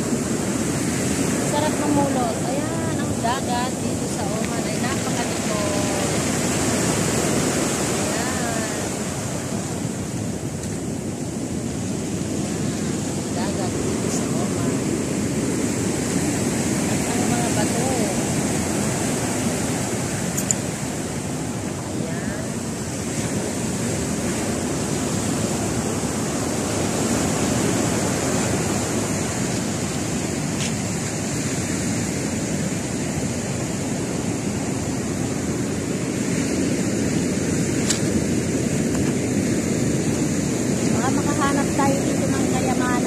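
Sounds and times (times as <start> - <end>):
surf washing up pebble beach: 0.0 - 43.0.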